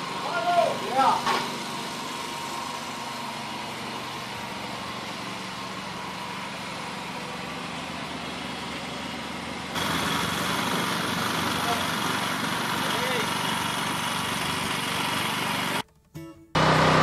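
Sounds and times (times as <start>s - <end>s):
machinery droning: 0.0s - 15.8s.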